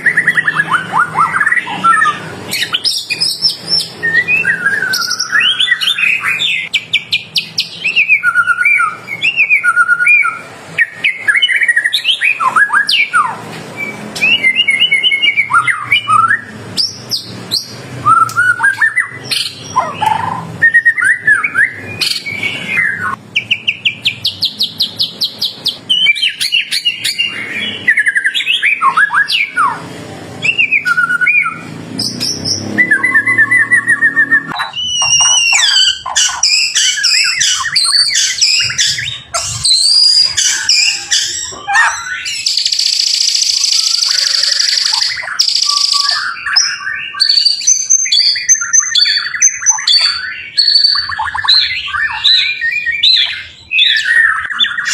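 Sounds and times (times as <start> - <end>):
bird singing whistles and trills: 0.0 - 29.8, 30.4 - 54.9.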